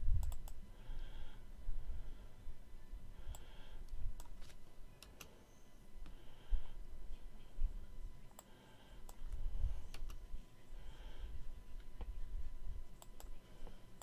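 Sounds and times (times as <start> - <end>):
faint low rumble: 0.0 - 14.0.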